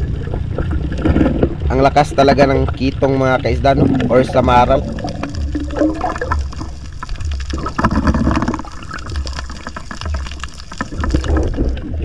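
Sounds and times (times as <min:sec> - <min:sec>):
underwater crackle of clicks: 0:00.0 - 0:12.0
underwater water surges: 0:00.0 - 0:12.0.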